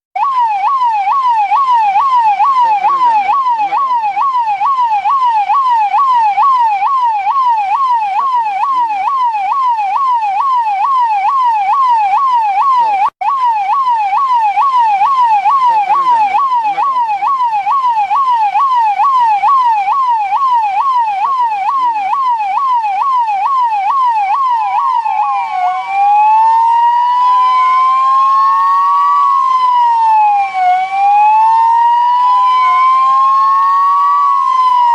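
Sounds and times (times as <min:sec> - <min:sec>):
police siren yelping and wailing: 0:00.2 - 0:34.9.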